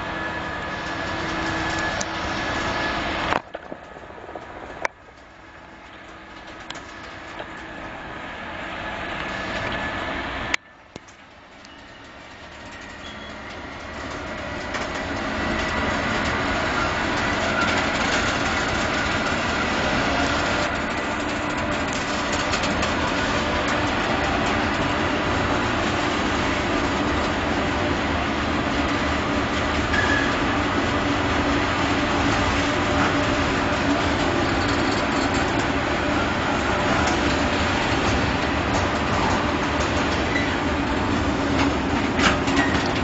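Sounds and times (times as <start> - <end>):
freight train wheels clattering: 0.0 - 43.0.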